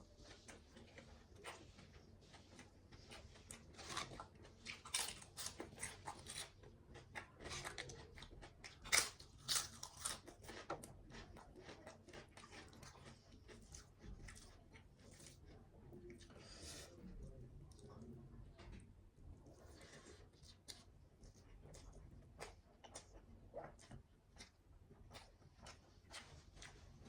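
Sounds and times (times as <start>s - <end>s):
person chewing crunchy food: 0.3s - 15.5s, 19.5s - 27.0s.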